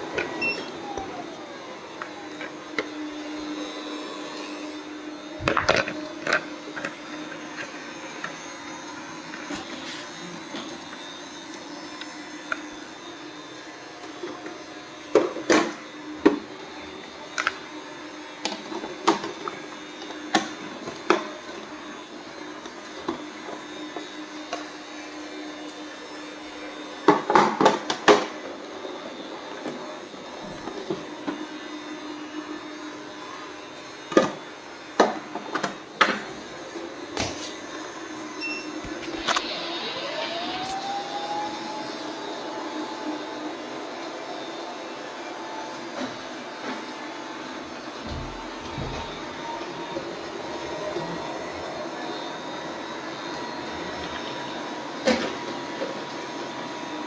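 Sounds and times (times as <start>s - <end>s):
robot vacuum motor hum: 0.0s - 25.8s, 28.8s - 54.9s.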